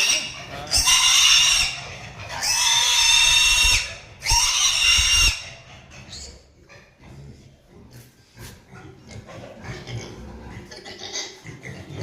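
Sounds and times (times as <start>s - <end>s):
pig squealing: 0.0s - 7.0s, 8.9s - 12.0s
pig grunting and snuffling: 0.0s - 12.0s.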